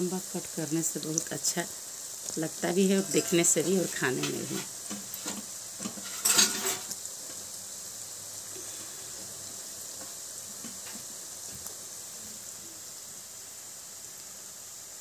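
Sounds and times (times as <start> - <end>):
dough deep-frying in oil: 0.0 - 15.0.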